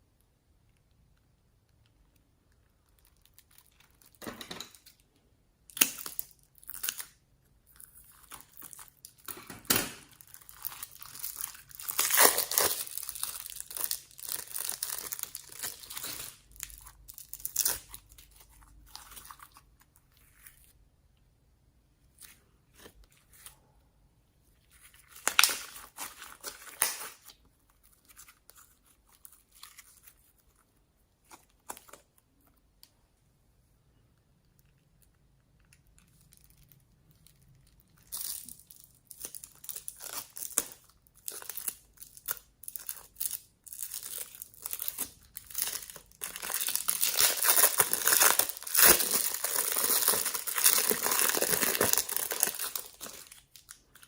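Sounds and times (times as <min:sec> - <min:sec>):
slime crinkling and crackling: 0:00.8 - 0:04.2, 0:05.7 - 0:20.8, 0:24.5 - 0:32.5, 0:34.6 - 0:54.0.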